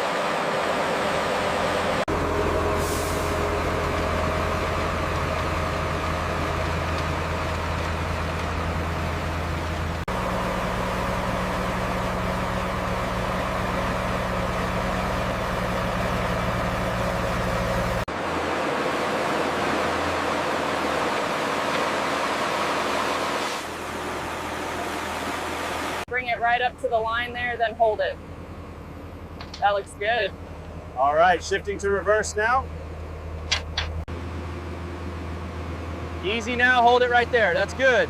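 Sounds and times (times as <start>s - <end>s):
construction machinery engine drone: 0.0s - 38.0s.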